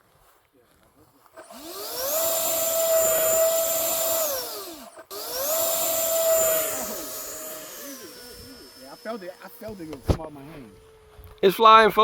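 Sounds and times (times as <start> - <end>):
electric ducted fan whining: 1.4 - 12.0.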